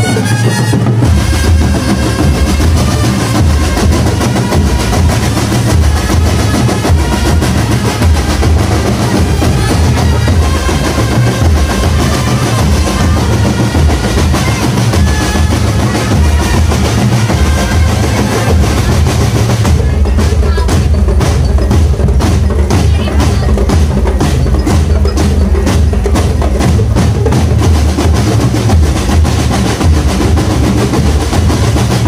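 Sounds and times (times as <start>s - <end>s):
bass drums thumping: 0.0s - 32.0s
snare drums rolling: 0.0s - 32.0s.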